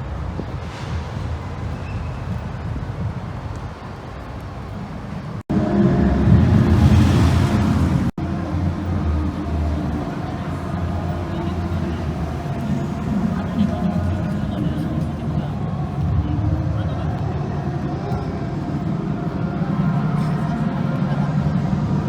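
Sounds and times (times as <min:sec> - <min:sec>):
car engines running: 0:00.0 - 0:22.0
low outdoor rumble: 0:00.0 - 0:22.0
wind buffeting microphone: 0:00.0 - 0:22.0.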